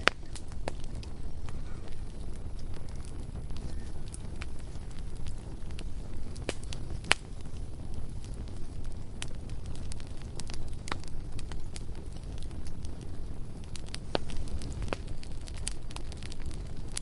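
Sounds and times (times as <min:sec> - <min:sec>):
bonfire low rumble: 0:00.0 - 0:17.0
burning wood crackling and popping: 0:00.0 - 0:17.0.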